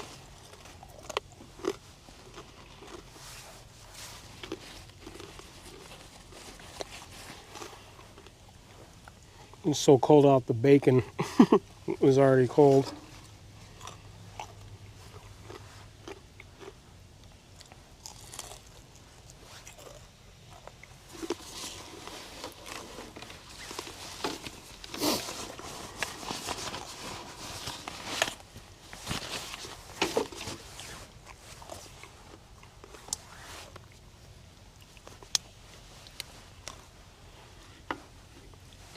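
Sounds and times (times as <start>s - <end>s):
person chewing and crunching food: 0.0s - 9.6s, 12.6s - 38.9s.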